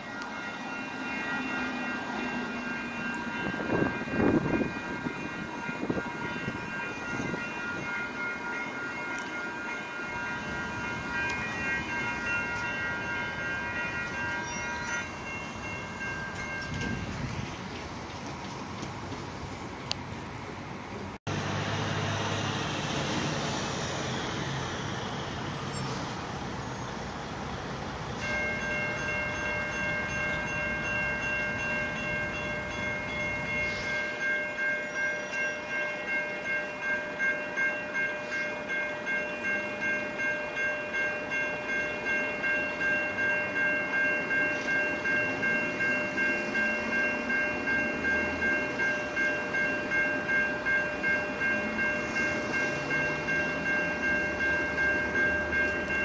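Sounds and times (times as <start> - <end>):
crossing warning bell ringing: 0.0 - 17.6, 21.2 - 56.0
distant train rumble: 0.0 - 56.0.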